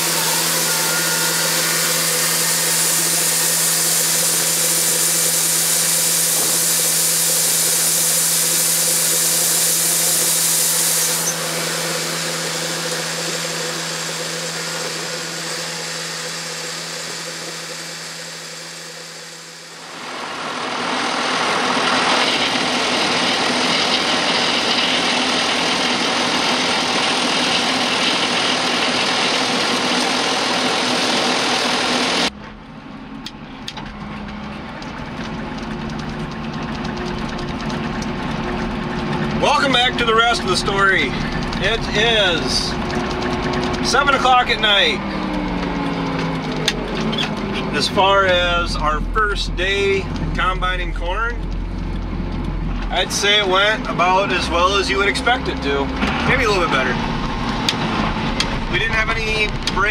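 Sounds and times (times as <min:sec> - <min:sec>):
farm machinery humming: 0:00.0 - 0:59.9
machine running roughly: 0:00.0 - 0:59.9.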